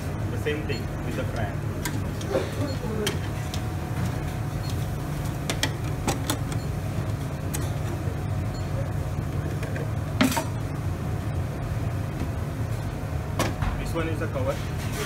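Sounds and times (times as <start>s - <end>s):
low kitchen machine hum: 0.0s - 15.0s.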